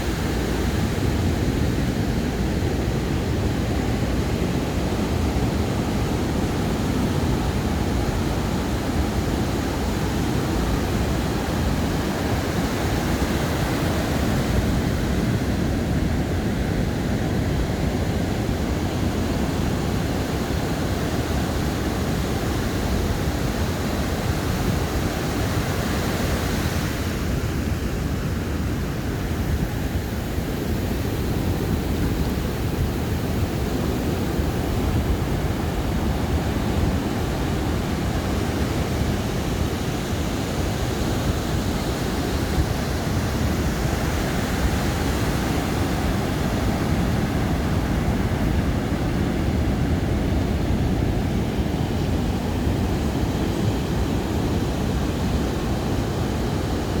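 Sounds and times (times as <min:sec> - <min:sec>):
ocean surf on beach: 0:00.0 - 0:57.0.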